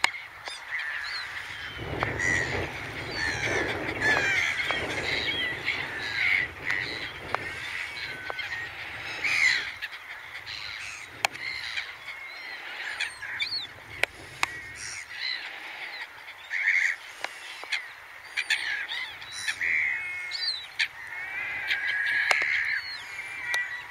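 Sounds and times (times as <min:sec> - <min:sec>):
gulls calling: 0:00.0 - 0:23.9.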